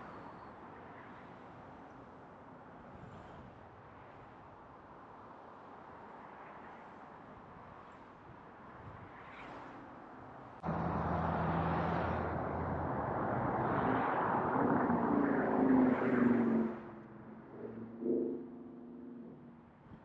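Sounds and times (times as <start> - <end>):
vehicle engine and tyres: 2.8 - 20.0.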